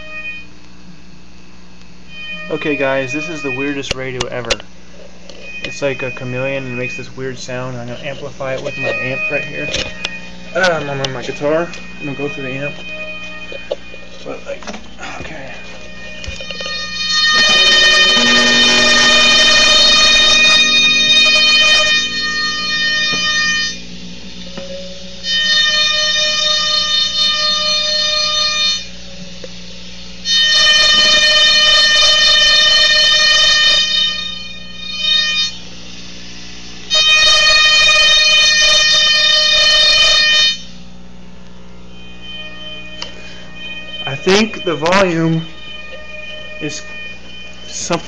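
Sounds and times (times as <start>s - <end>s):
electronic buzzing drone: 0.0s - 48.0s
low amp hum: 0.0s - 48.0s.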